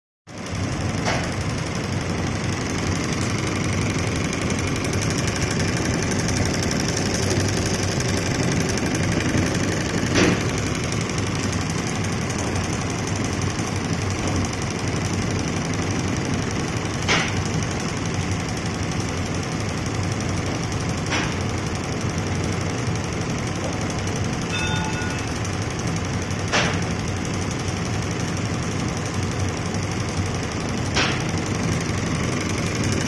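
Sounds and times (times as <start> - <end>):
embroidery machine stitching: 0.3 - 33.0
loud mechanical clacks: 0.4 - 33.0.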